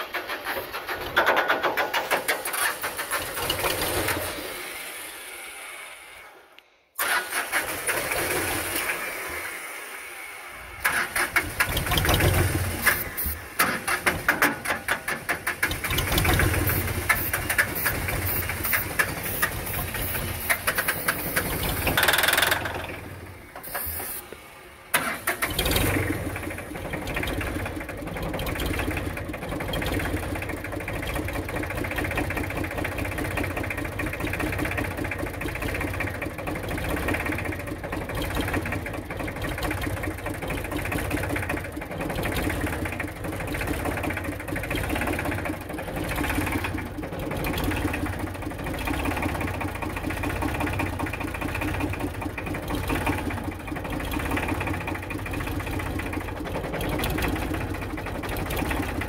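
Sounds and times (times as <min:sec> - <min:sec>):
diesel tractor engine sputtering: 0:00.0 - 0:06.4, 0:07.0 - 0:59.0.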